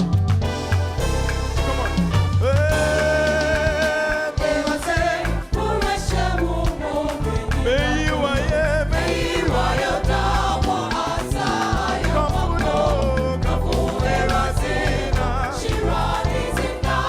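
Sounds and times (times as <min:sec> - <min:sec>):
gospel choir and singers with band: 0:00.0 - 0:17.0.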